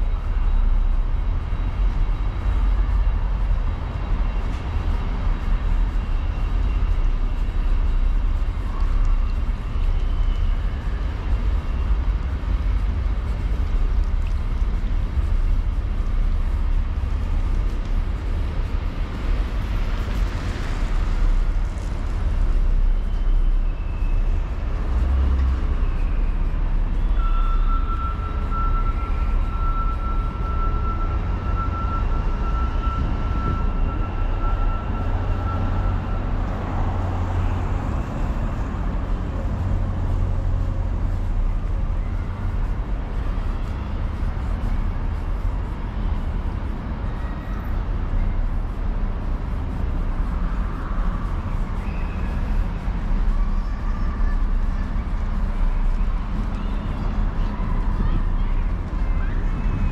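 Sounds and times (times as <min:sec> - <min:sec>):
street traffic drone: 0:00.0 - 0:59.9.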